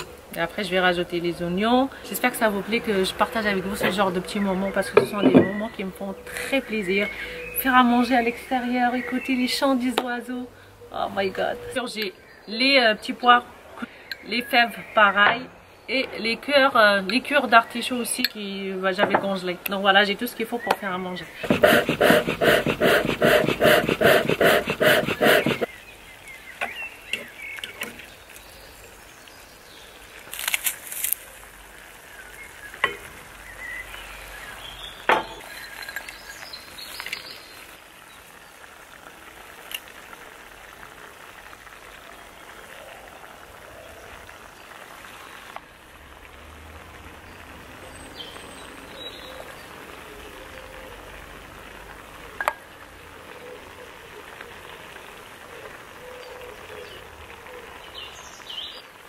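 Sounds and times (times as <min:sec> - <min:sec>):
faint food sizzling: 0:00.0 - 0:59.0.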